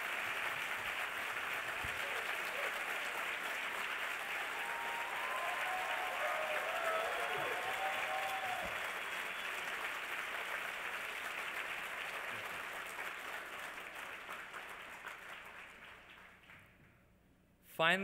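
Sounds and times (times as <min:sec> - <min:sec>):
audience applause: 0:00.0 - 0:16.6.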